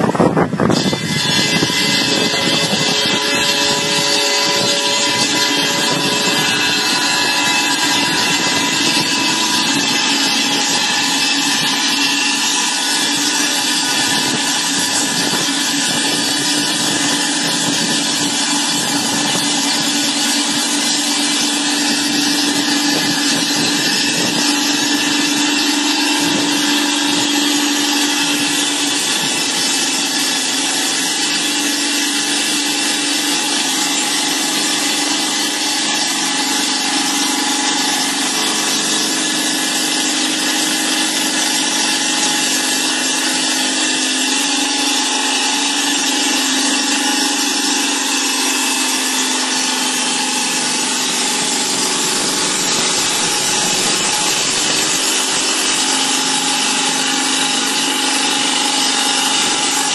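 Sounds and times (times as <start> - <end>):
motor hum: 0.0 - 59.9
saw blade grinding through stone: 0.0 - 59.9.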